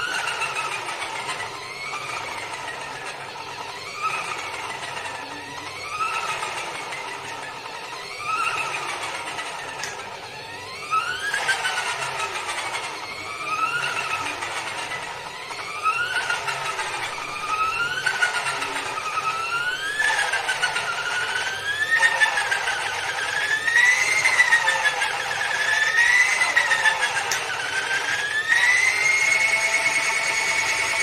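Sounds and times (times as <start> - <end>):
washing machine spin motor whining: 0.0 - 31.0.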